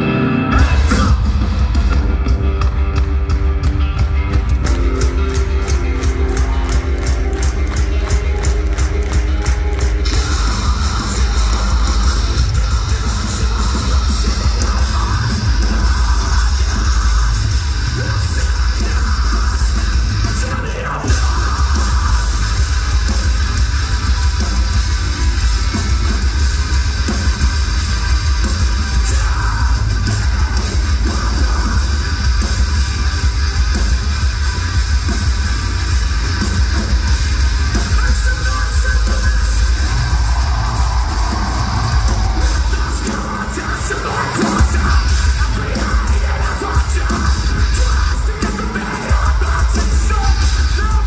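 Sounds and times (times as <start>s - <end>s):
metal band playing: 0.0s - 51.0s.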